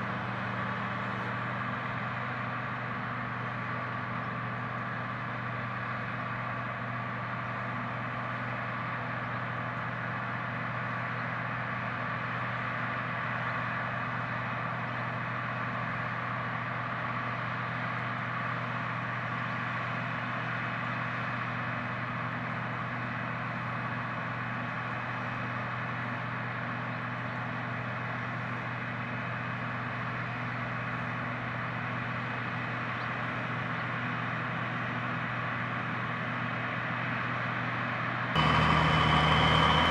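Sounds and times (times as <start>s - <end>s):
engine drone with whine: 0.0s - 39.9s.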